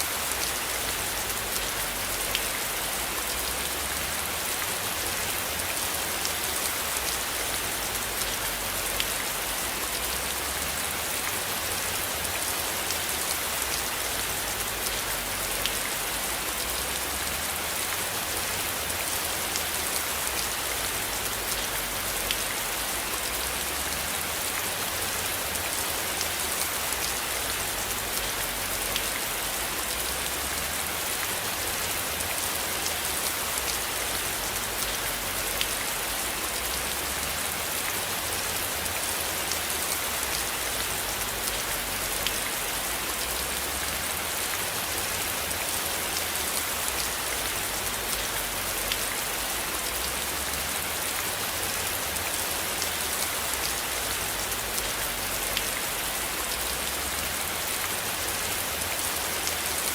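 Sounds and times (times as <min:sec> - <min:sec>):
steady rain on a surface: 0:00.0 - 0:59.9.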